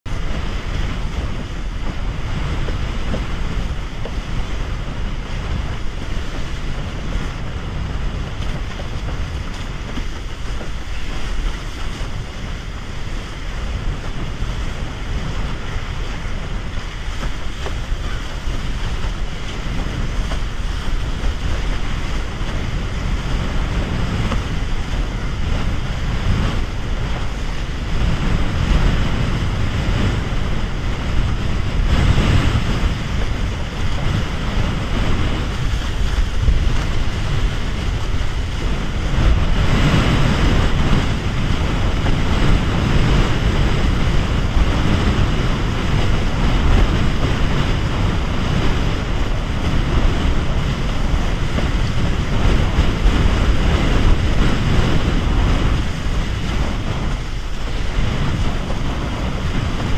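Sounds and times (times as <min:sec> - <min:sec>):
water splashing against hull: 0:00.0 - 0:59.9
wind buffeting microphone: 0:00.0 - 0:59.9.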